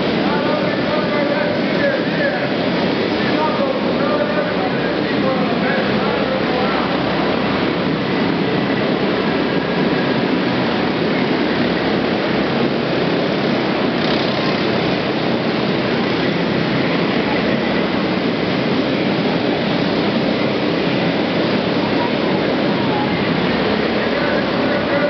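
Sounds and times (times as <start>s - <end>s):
kart engines racing: 0.0s - 25.0s.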